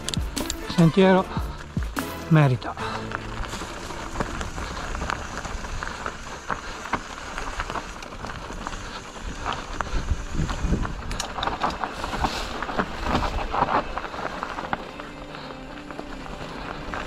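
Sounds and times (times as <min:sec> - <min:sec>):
bike rattling: 0:00.0 - 0:17.0
steady low rumble: 0:00.0 - 0:17.0
tyres crunching over stones: 0:00.0 - 0:17.0.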